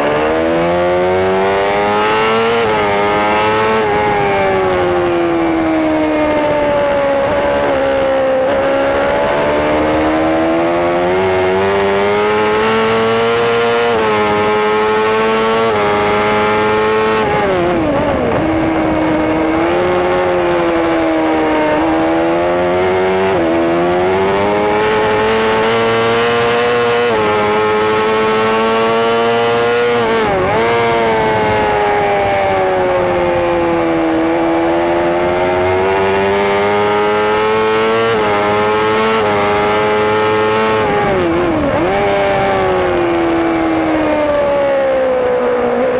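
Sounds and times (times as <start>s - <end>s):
racing motorcycle engine: 0.0s - 45.9s.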